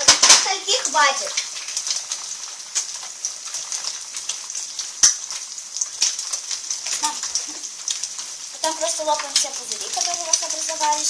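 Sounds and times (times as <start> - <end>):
egg sizzling in frying pan: 0.0 - 11.0.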